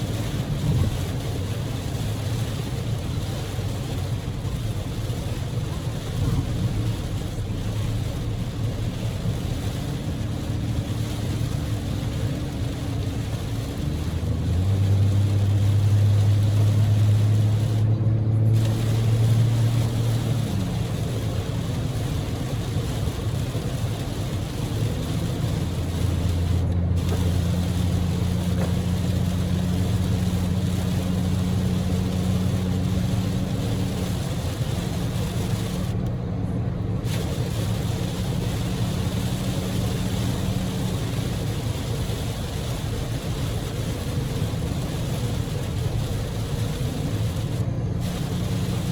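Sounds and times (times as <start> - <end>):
car engine hum: 0.0 - 48.9
heavy rain: 0.0 - 48.9.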